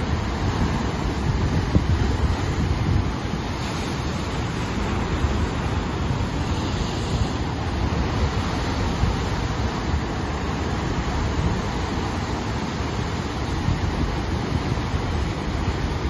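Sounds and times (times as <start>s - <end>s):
ocean surf breaking on rocks: 0.0s - 16.0s.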